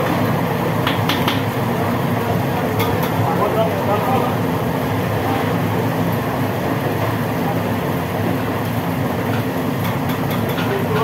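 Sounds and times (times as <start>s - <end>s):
kitchen equipment roaring: 0.0s - 11.0s.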